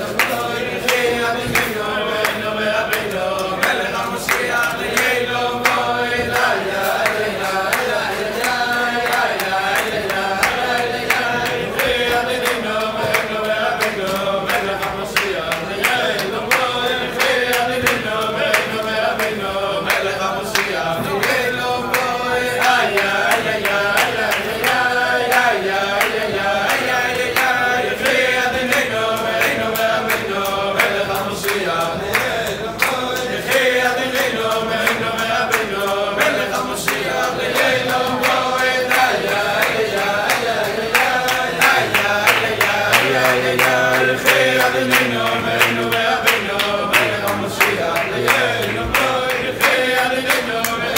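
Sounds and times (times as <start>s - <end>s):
men singing together: 0.0s - 50.9s
rhythmic hand clapping: 0.0s - 50.9s.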